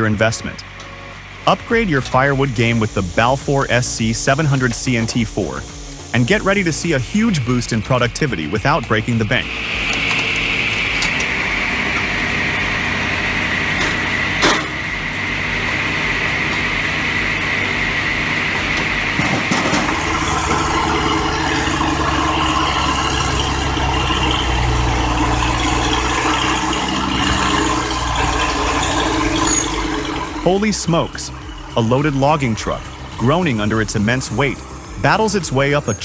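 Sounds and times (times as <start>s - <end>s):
heavy diesel machinery running: 0.0s - 36.0s
high falling whine: 0.0s - 36.0s.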